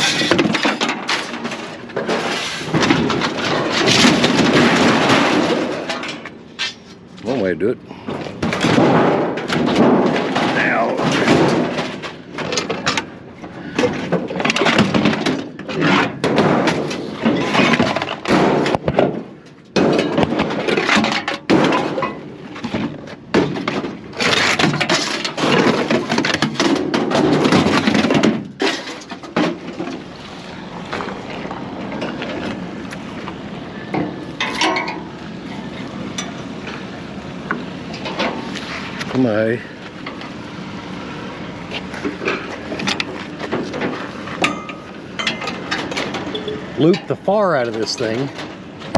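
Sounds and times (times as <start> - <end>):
scrap metal clattering and scraping: 0.0 - 37.0, 37.8 - 40.4, 41.6 - 48.9.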